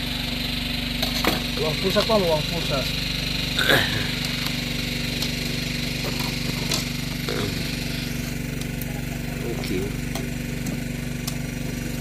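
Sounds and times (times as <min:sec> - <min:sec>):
engine throbbing: 0:00.0 - 0:12.0.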